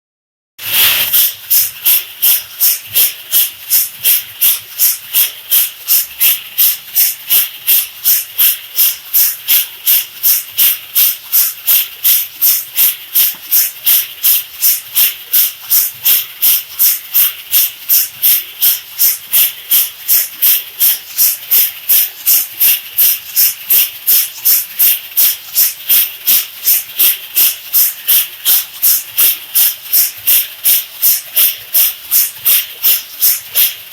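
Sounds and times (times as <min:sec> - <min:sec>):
coffee beans rattling in drum: 0:00.6 - 0:33.9.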